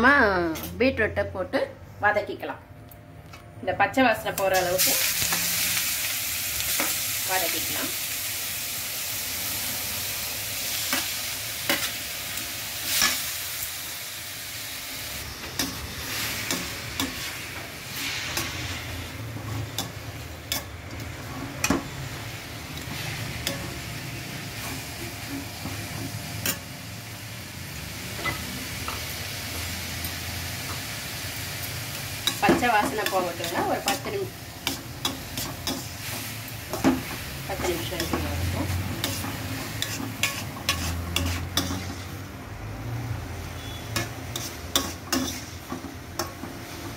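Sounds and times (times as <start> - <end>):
beetroot sizzling in a pan: 4.2 - 46.9.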